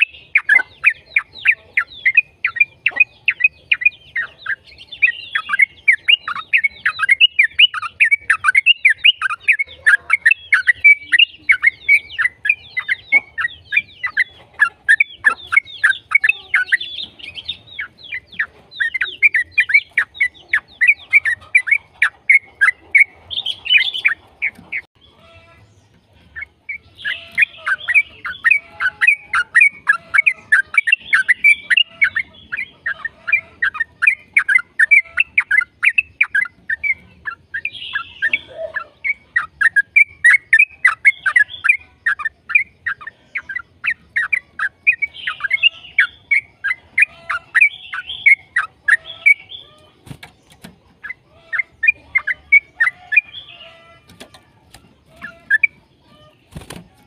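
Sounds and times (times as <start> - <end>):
bulbul singing chattering notes: 0.0 - 57.0.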